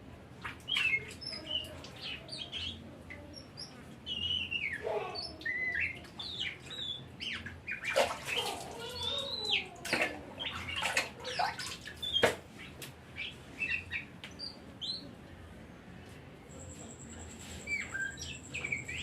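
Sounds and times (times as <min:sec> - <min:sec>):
magpie-robin song: 0:00.7 - 0:09.6, 0:10.4 - 0:15.1, 0:17.2 - 0:19.0.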